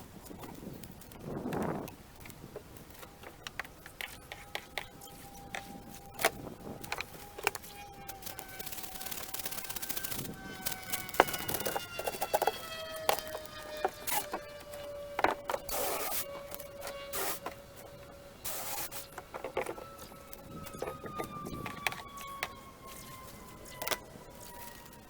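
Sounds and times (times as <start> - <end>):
electric chainsaw cutting wood: 0.2 - 25.0.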